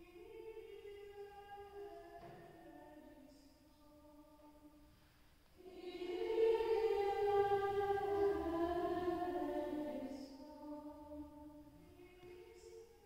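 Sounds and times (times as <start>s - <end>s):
women's choir chanting: 0.0s - 4.7s, 5.6s - 13.0s.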